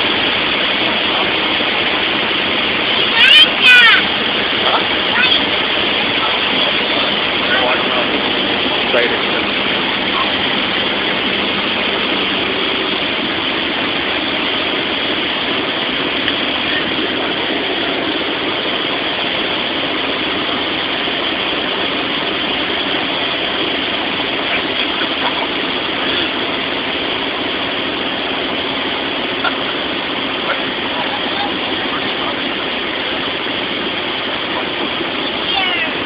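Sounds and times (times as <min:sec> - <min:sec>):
light airplane engine and propeller drone: 0:00.0 - 0:36.0.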